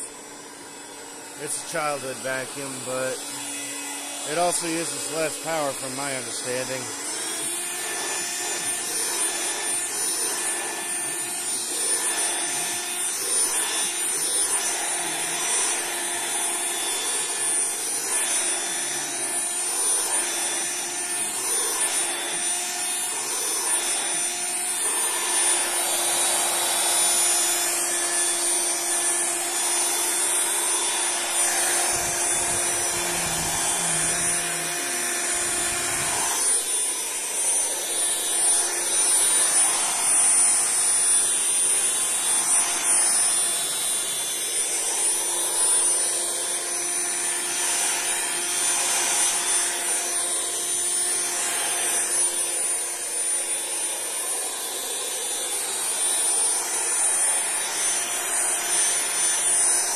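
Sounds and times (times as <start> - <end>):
handheld vacuum cleaner whine: 0.0 - 59.9.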